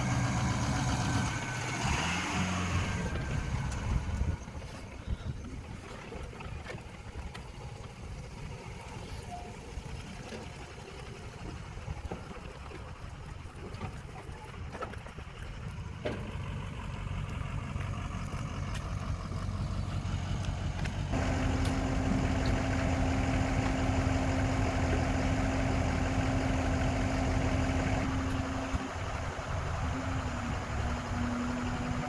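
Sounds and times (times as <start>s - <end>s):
heavy engine humming: 0.0s - 32.0s.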